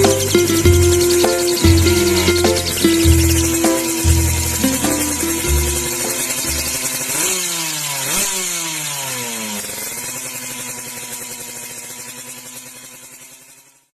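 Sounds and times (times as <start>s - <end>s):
motorcycle engine revving: 0.0s - 13.4s.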